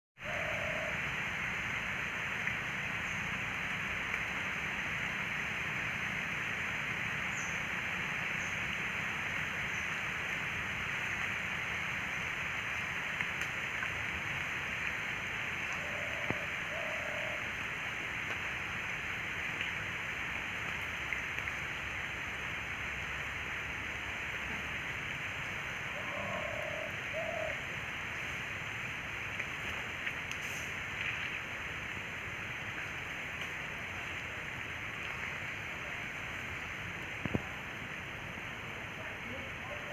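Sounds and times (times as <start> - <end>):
flowing water: 0.2 - 39.9.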